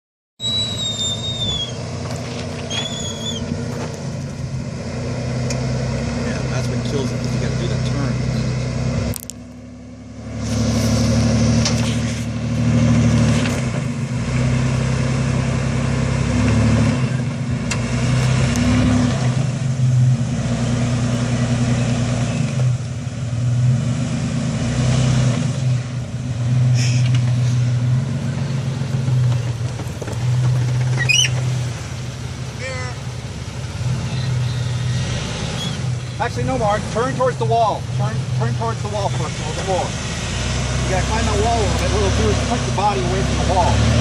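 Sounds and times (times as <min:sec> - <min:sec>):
truck engine at low revs: 0:00.4 - 0:44.0.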